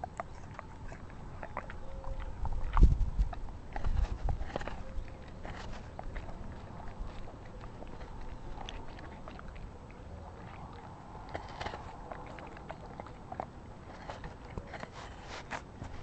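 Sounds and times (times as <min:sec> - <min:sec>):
dog chewing an apple: 0:00.0 - 0:16.0.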